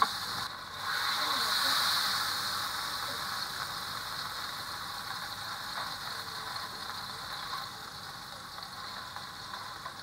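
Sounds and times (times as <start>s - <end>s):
steak sizzling in frying pan: 0.0s - 10.0s.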